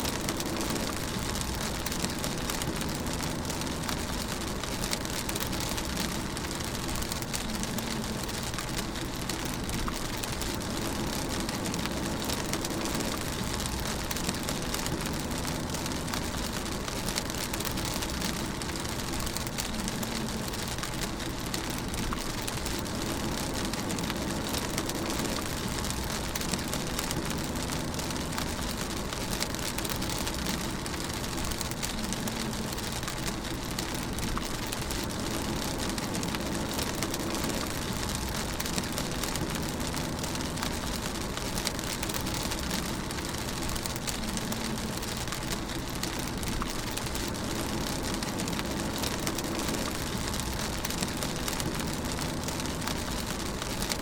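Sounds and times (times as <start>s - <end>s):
car engine and tyre rumble: 0.0s - 54.0s
rain pattering on a car: 0.0s - 54.0s.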